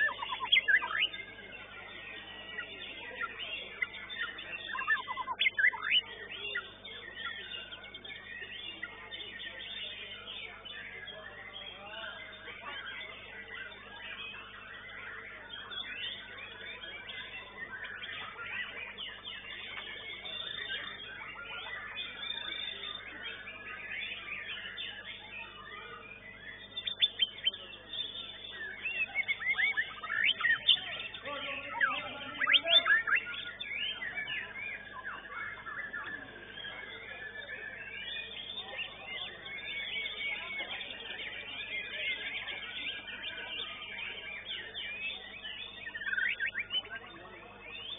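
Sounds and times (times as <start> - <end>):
chorus of caged songbirds: 0.0 - 47.9
songbird singing: 0.0 - 47.9.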